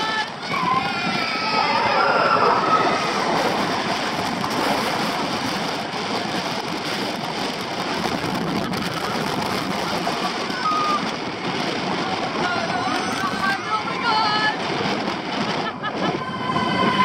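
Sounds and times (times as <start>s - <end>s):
roller coaster train on track: 0.0s - 17.0s
wind: 0.0s - 17.0s.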